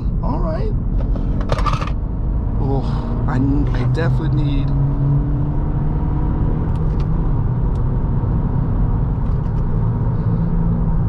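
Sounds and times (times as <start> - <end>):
car engine running: 0.0 - 11.0
road noise inside car: 0.0 - 11.0.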